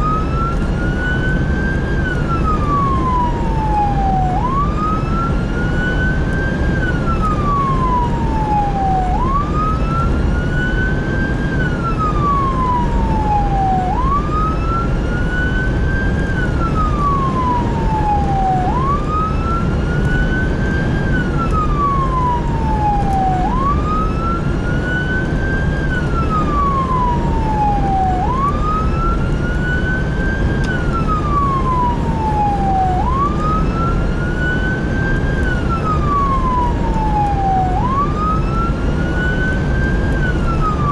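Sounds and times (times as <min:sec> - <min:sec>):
engine and road rumble: 0:00.0 - 0:40.9
fire engine siren wailing: 0:00.0 - 0:40.9.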